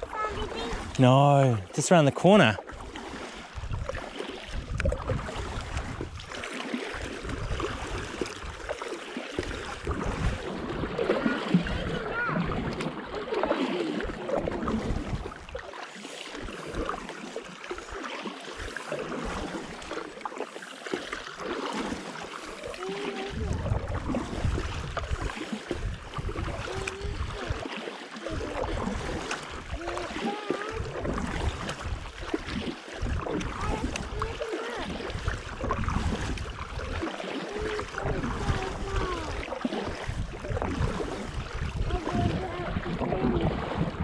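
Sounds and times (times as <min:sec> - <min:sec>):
water lapping around board: 0:00.0 - 0:44.0.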